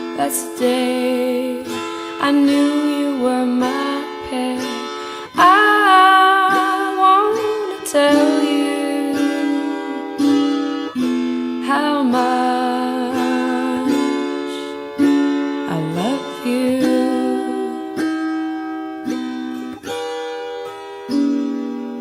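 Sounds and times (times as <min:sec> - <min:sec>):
plucked acoustic guitar music: 0:00.0 - 0:22.0.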